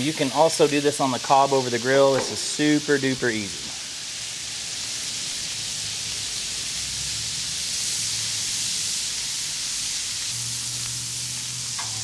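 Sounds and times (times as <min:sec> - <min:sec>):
corn sizzling on a griddle: 0:00.0 - 0:12.0.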